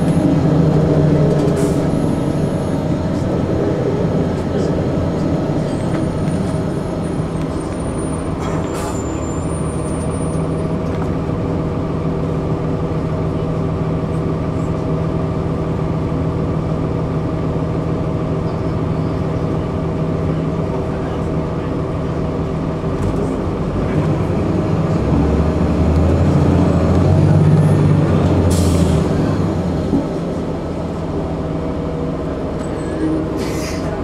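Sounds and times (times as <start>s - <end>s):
bus diesel engine running: 0.0s - 34.0s.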